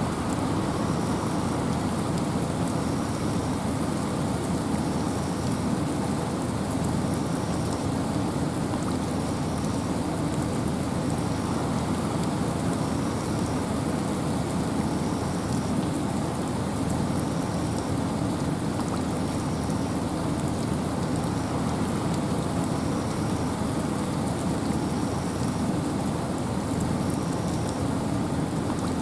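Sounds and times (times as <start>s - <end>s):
rain falling in forest: 0.0s - 29.0s.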